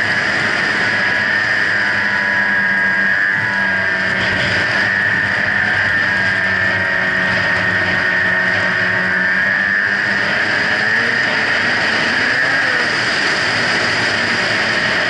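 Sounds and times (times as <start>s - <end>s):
high whine: 0.0s - 15.0s
snowmobile engine running: 0.0s - 15.0s.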